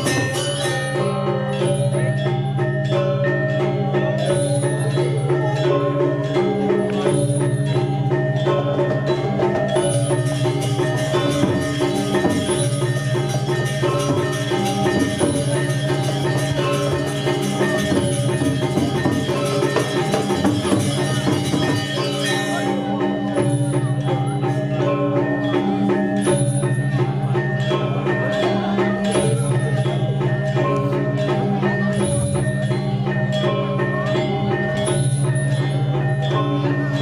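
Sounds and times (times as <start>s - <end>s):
gamelan metal percussion and drums: 0.0s - 37.0s.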